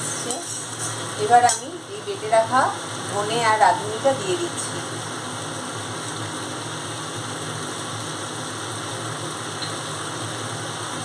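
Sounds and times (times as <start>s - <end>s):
vegetables frying in oil: 0.0s - 11.0s.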